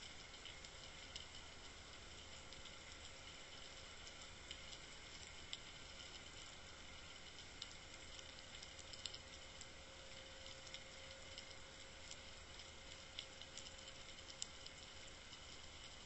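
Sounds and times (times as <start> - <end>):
faint steady tone: 0.0 - 16.0
low steady hum: 0.0 - 16.0
underwater ticks and crackles: 0.0 - 16.0.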